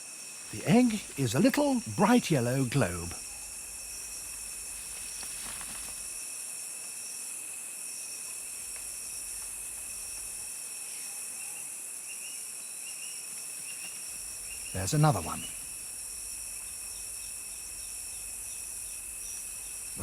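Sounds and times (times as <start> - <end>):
high-pitched insect drone: 0.0 - 7.2, 7.8 - 20.0
background hiss: 0.0 - 20.0.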